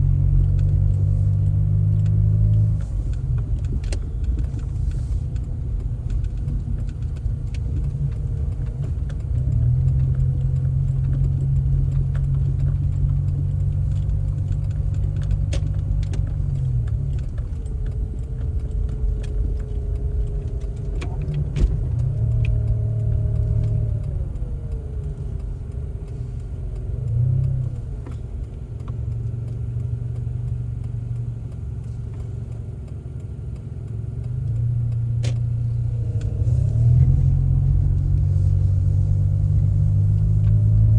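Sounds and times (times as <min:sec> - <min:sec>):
car engine rumbling: 0:00.0 - 0:40.9
light clicks and rattles: 0:00.1 - 0:40.9.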